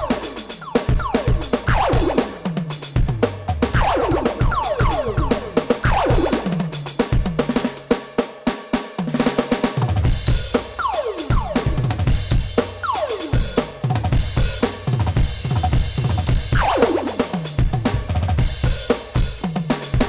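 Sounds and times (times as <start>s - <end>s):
pitched drum runs falling: 0.0s - 7.9s, 9.0s - 20.0s
electronic drum kit groove: 0.0s - 20.0s.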